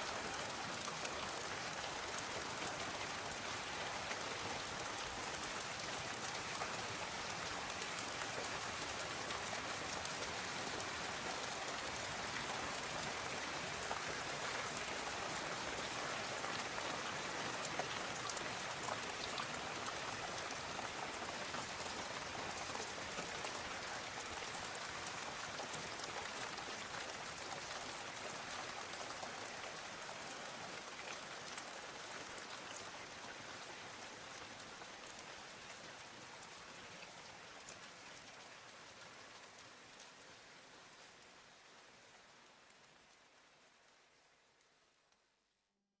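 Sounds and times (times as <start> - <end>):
raindrops pattering on surfaces: 0.0 - 45.6
steady rain hiss: 0.0 - 45.8.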